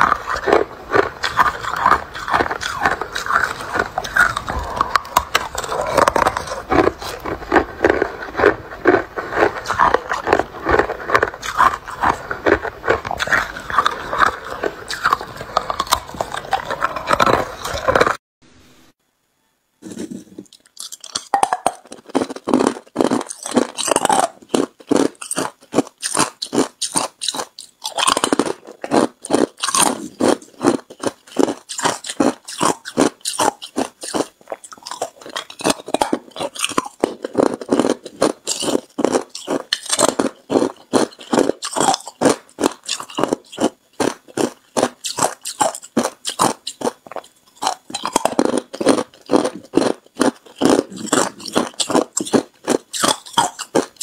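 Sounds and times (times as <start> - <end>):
ice being chewed: 0.0 - 18.2, 19.8 - 54.0.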